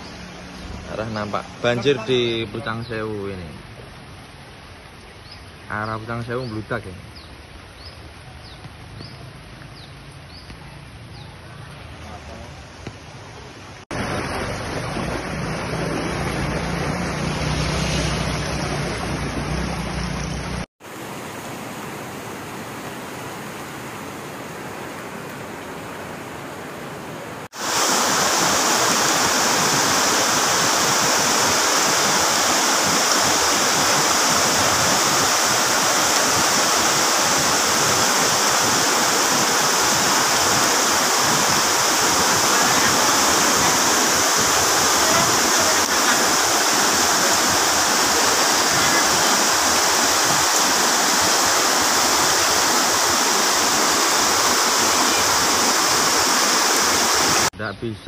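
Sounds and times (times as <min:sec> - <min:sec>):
river water roaring over weir: 0:07.3 - 0:57.5.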